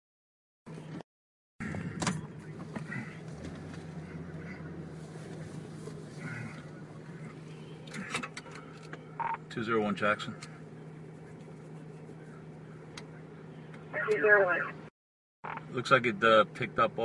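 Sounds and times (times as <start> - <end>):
engine and tyre hum: 0.7 - 1.0, 1.6 - 17.0.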